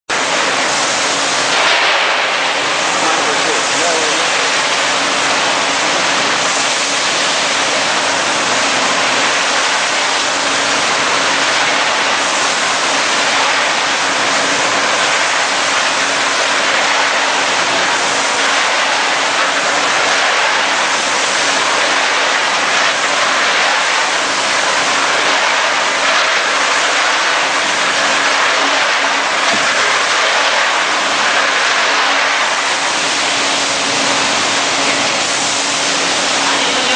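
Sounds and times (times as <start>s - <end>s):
machine hum: 0.1s - 36.9s.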